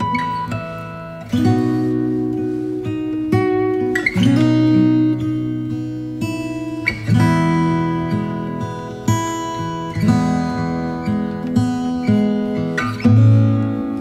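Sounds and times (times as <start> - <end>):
acoustic guitar tune: 0.0 - 14.0.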